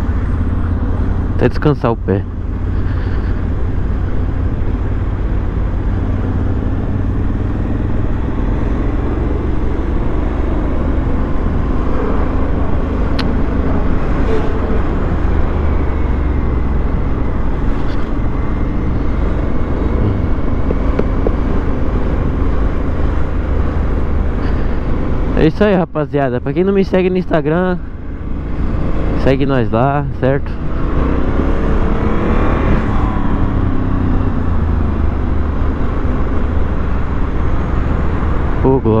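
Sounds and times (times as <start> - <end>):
motorcycle engine cruising: 0.0 - 39.0.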